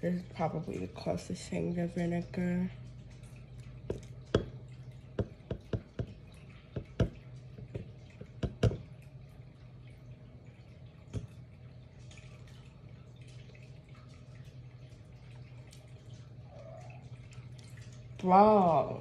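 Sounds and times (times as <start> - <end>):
thin liquid trickle: 0.0 - 19.0
liquid dripping into glass: 2.2 - 18.2.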